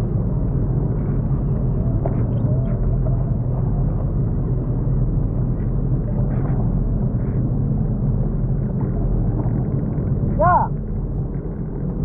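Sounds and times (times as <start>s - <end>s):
jet ski engine hum: 0.0s - 11.9s
wind on microphone: 0.0s - 12.0s.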